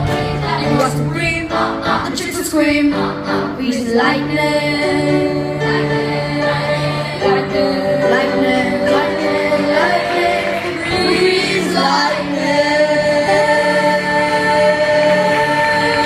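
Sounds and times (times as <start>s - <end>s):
backing music: 0.0s - 16.0s
group singing together: 0.0s - 16.0s.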